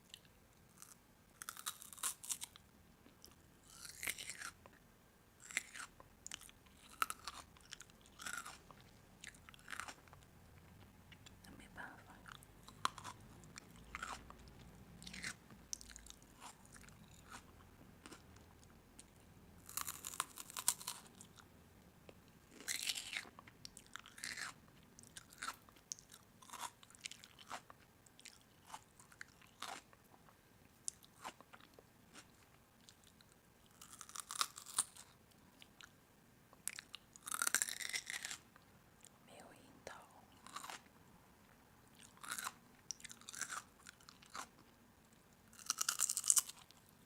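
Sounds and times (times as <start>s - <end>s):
crisp food crunching: 0.0s - 2.6s, 3.2s - 4.7s, 5.4s - 11.3s, 12.3s - 21.4s, 22.5s - 30.0s, 30.8s - 35.8s, 36.6s - 38.4s, 40.4s - 40.9s, 41.9s - 44.7s, 45.5s - 46.9s.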